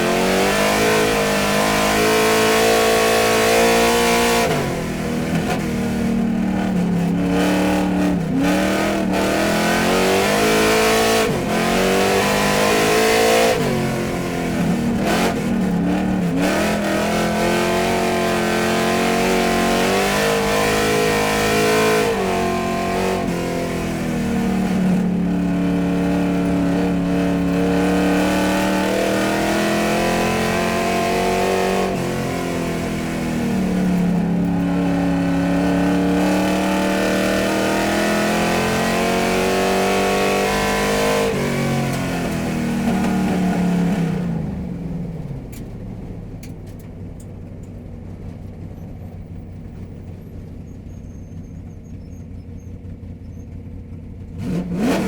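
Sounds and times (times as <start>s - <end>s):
car engine revving: 0.0s - 46.8s, 54.2s - 55.0s.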